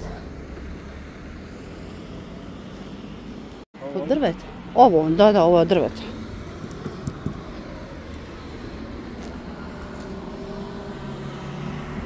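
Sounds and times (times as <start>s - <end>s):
passing cars rumble: 0.0s - 12.0s.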